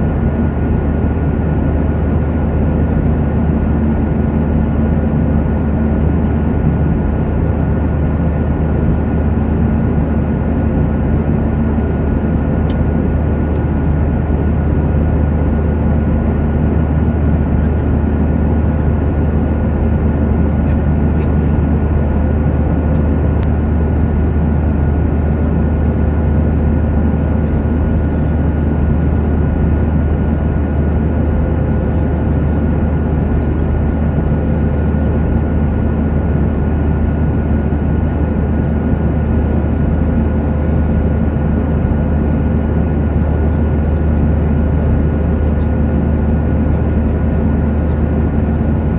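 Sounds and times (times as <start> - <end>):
airliner cabin drone: 0.0 - 48.9.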